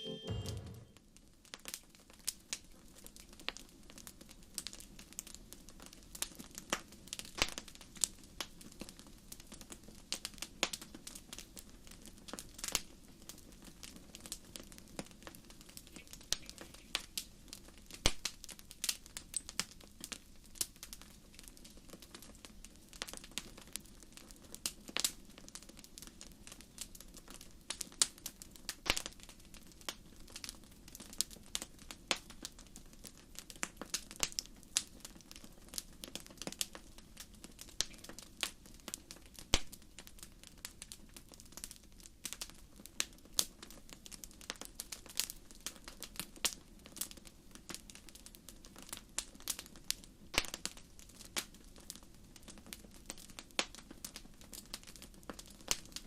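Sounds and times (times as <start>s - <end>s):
wood fire crackling: 1.3s - 56.0s.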